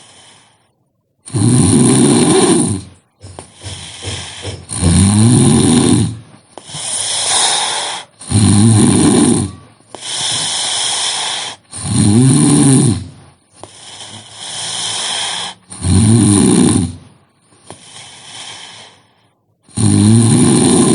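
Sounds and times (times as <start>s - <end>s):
hissing breath: 0.0s - 20.0s
person snoring: 1.3s - 19.1s, 19.7s - 20.9s.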